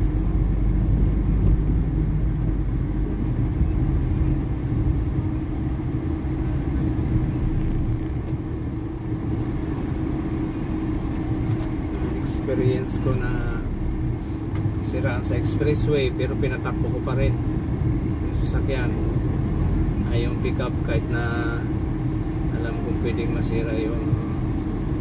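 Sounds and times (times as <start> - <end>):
road noise: 0.0 - 25.0
van engine rumble: 0.0 - 25.0.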